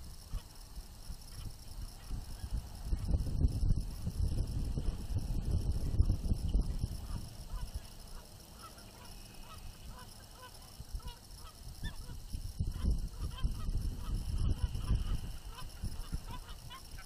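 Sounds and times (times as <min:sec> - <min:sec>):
wind gusts on microphone: 0:00.0 - 0:17.0.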